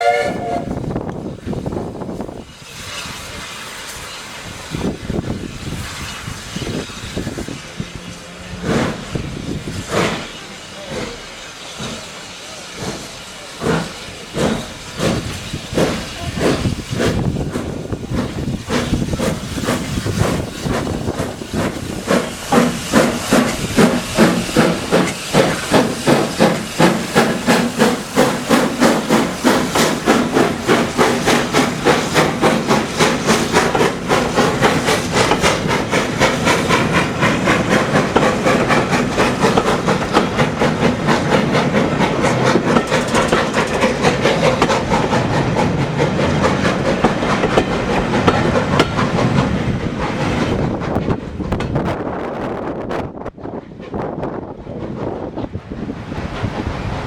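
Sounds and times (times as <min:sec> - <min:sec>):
steam hissing: 0:00.0 - 0:52.2, 0:54.1 - 0:57.0
steam locomotive exhaust chuffs: 0:00.0 - 0:57.0.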